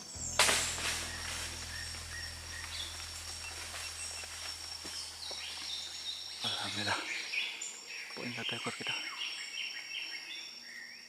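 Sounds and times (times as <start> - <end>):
bird chirps: 0.0 - 11.0
high insect drone: 0.0 - 11.0.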